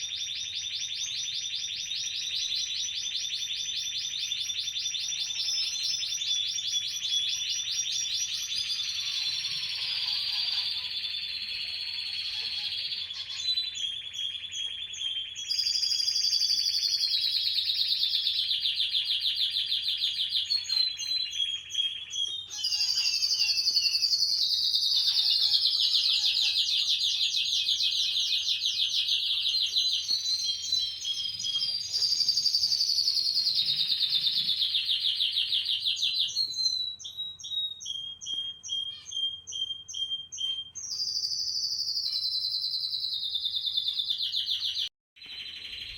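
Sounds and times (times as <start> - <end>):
canary singing: 0.0 - 45.9.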